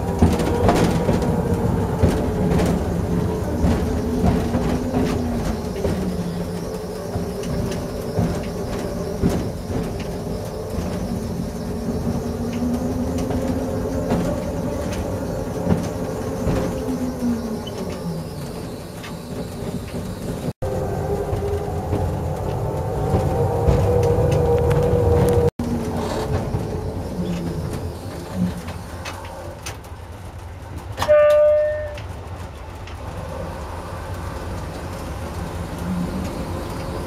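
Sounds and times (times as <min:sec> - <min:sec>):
wheels clicking on rails: 0:00.0 - 0:37.0.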